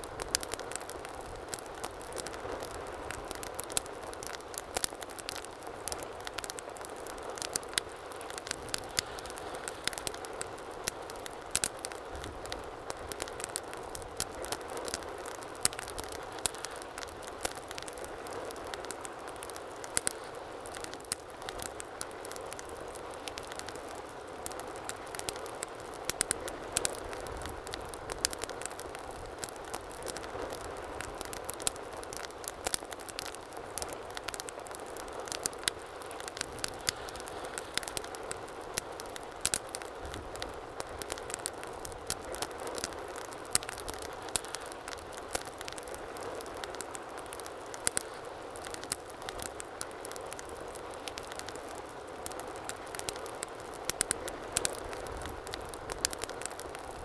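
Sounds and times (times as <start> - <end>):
wood fire crackling in a fireplace: 0.0 - 57.0.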